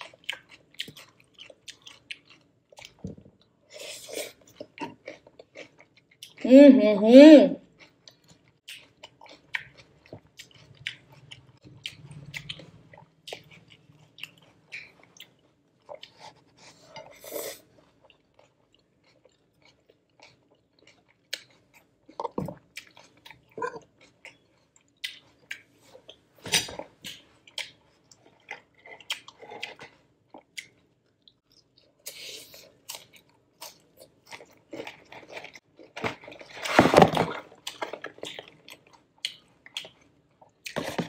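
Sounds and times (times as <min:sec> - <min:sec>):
person chewing crunchy food: 0:00.0 - 0:06.5, 0:07.6 - 0:41.0.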